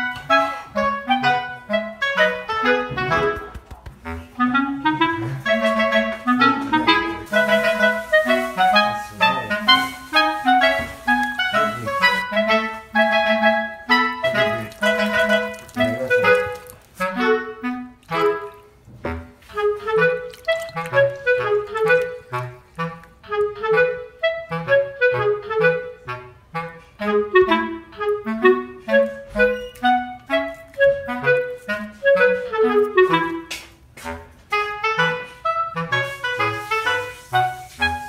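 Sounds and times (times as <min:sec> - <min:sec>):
lively instrumental music: 0:00.0 - 0:38.0.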